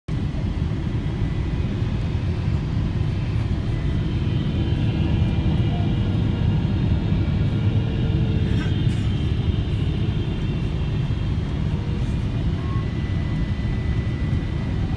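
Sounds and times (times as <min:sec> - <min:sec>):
airplane cabin engine rumble: 0:00.1 - 0:14.9.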